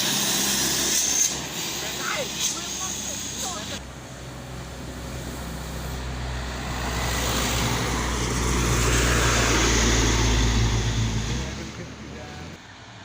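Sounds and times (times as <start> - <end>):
truck diesel engine hum: 0.0 - 13.0
tyre road noise: 0.0 - 13.0.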